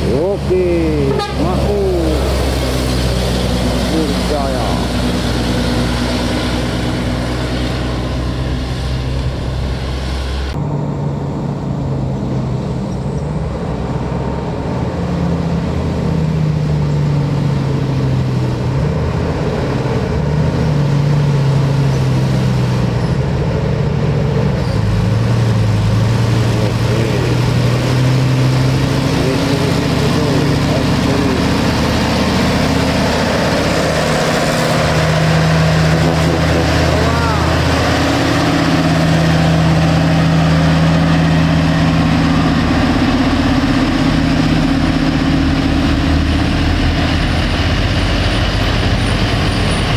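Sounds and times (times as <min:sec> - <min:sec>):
diesel truck engine running: 0:00.0 - 0:49.9.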